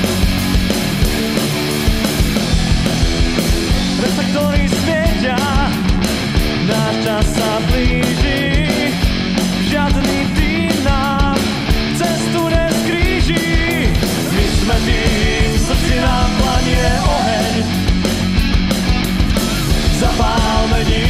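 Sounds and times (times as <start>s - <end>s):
fast dense drum beat: 0.0s - 21.0s
rock song: 0.0s - 21.0s.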